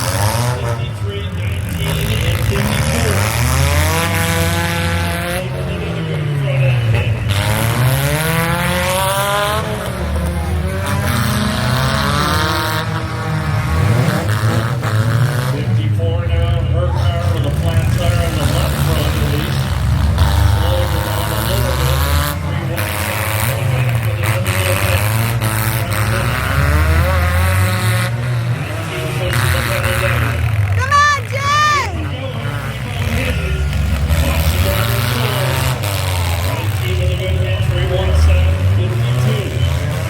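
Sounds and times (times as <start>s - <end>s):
car engine revving hard: 0.0s - 40.0s.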